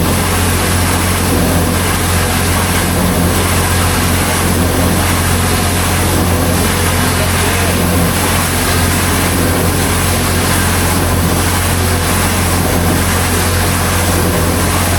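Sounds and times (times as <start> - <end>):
machine engine humming: 0.0 - 14.9.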